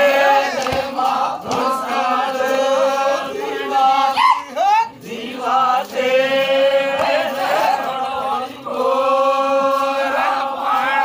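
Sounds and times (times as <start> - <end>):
folk song with held notes: 0.0 - 11.0.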